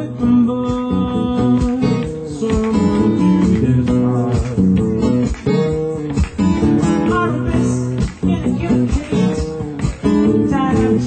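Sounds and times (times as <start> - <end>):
man singing into a microphone: 0.0 - 6.2, 6.8 - 11.0
acoustic guitars playing: 0.0 - 11.0.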